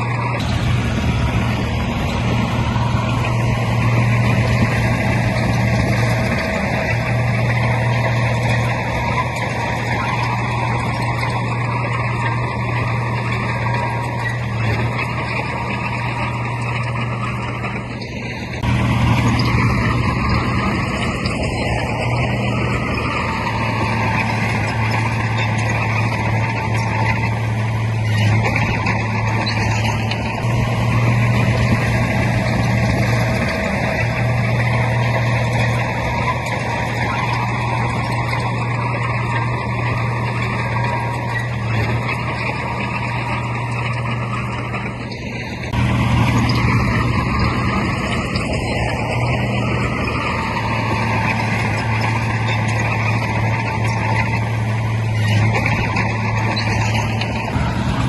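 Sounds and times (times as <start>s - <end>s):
heavy diesel engine running under load: 0.0s - 58.0s.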